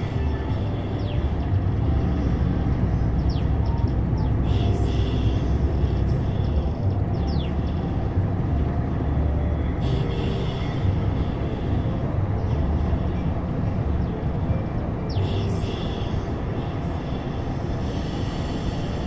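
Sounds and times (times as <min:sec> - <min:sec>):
vehicle engine and tyre rumble: 0:00.0 - 0:19.0.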